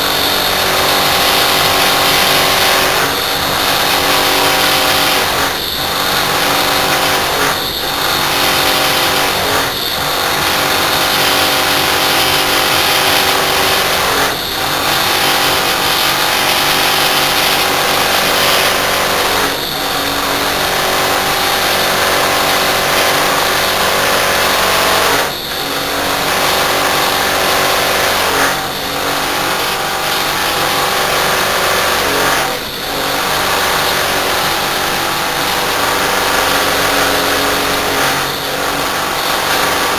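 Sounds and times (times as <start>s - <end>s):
air conditioner compressor rattling drone: 0.0s - 39.9s.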